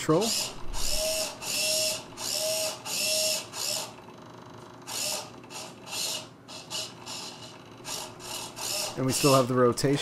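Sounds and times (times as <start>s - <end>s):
servo whirring: 0.2s - 4.0s, 4.9s - 9.5s.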